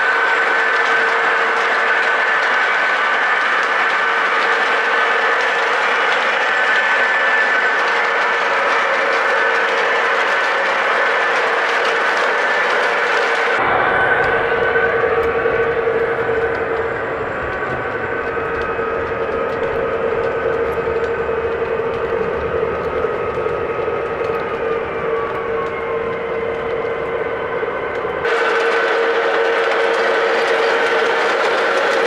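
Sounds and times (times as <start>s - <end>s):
model train running: 0.0s - 32.0s
sustained train sound tones: 0.0s - 32.0s.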